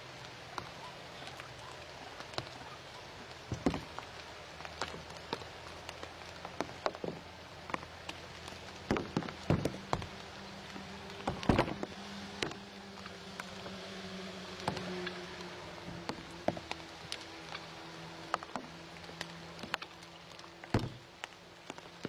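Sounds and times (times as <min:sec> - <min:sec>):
raindrops on leaves and reeds: 0:00.0 - 0:22.0.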